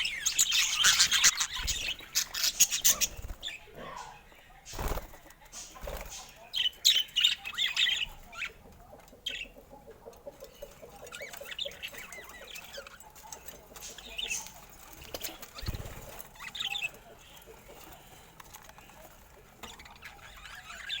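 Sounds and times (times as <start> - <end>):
budgerigars chirping and chattering: 0.0 - 21.0.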